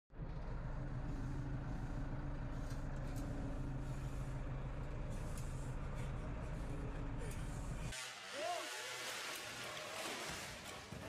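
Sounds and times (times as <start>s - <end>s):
tractor engine drone: 0.1s - 11.0s.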